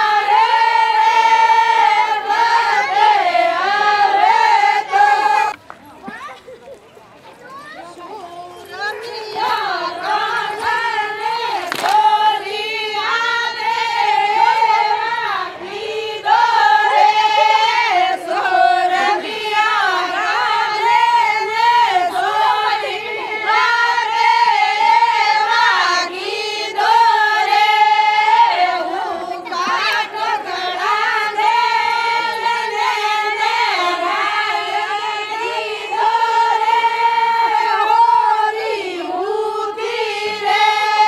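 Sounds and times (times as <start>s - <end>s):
women singing folk song: 0.0s - 5.6s, 8.2s - 41.0s.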